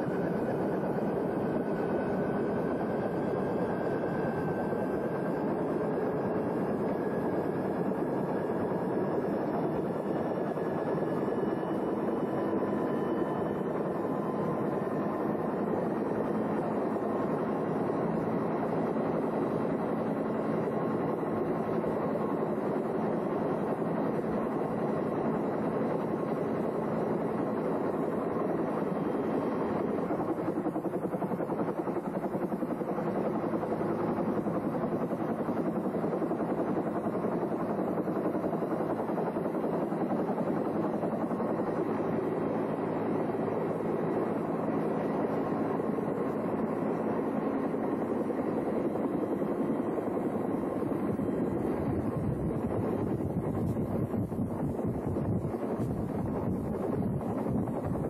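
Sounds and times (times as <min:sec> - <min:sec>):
faint turbine whine: 0:00.0 - 0:58.0
helicopter rotor and engine: 0:00.0 - 0:58.0.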